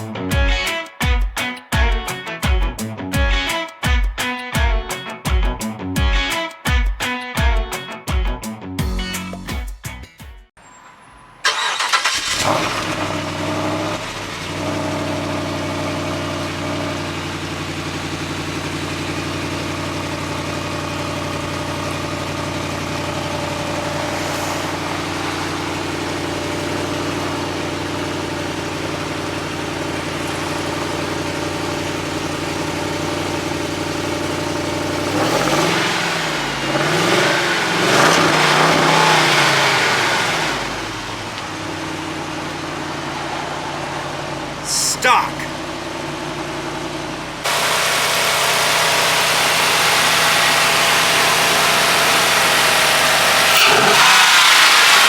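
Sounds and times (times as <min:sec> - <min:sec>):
car engine revving: 0:10.6 - 0:55.0
car engine starting and idling: 0:10.6 - 0:55.0.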